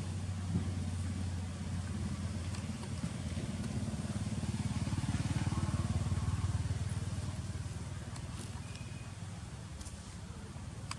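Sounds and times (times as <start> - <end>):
vehicle engine passing: 0.0 - 9.5.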